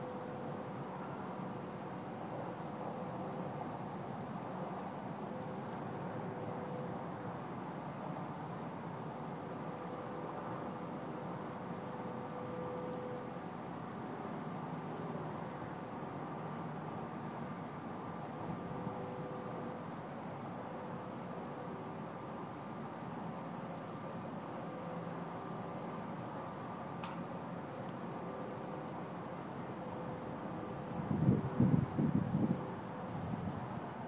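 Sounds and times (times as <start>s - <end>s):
cricket chirping: 0.0s - 34.0s
steady background noise: 0.0s - 34.0s.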